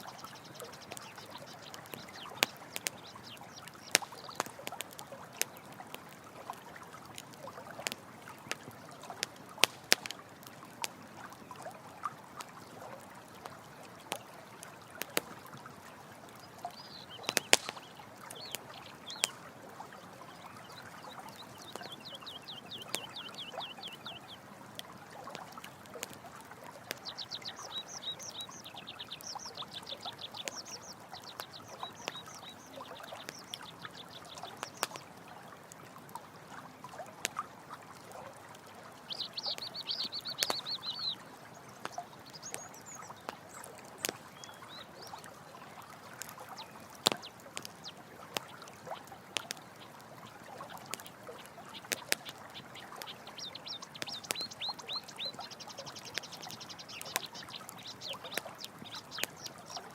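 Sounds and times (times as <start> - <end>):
campfire crackling: 0.0 - 59.9
running water: 0.0 - 59.9.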